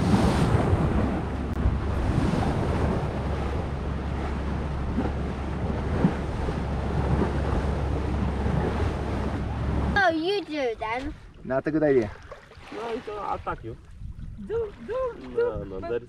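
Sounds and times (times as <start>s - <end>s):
sea water rushing around boat: 0.0s - 16.0s
wind buffeting microphone: 0.0s - 16.0s.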